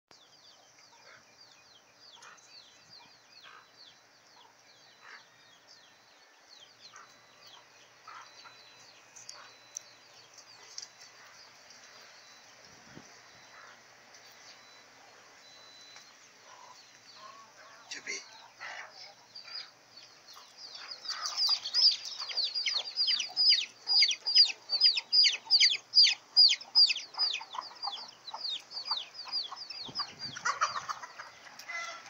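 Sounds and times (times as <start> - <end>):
bird chirps: 0.1 - 32.0
chickens clucking: 0.5 - 32.0.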